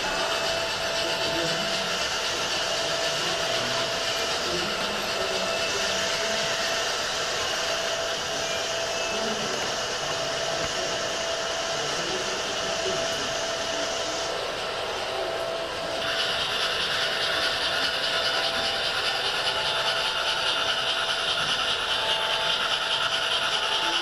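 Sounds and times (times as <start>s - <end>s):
model trains rushing: 0.0s - 24.0s.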